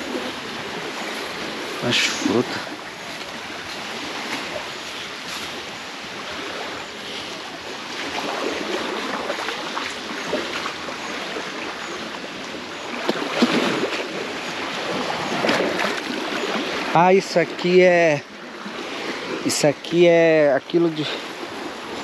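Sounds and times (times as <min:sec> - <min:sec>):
small waves washing onto beach: 0:00.0 - 0:22.0.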